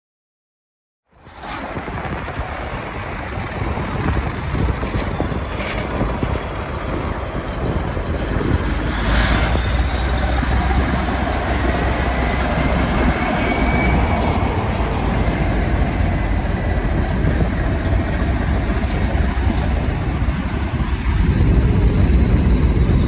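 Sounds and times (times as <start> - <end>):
locomotive diesel engine rumble: 1.4 - 23.0.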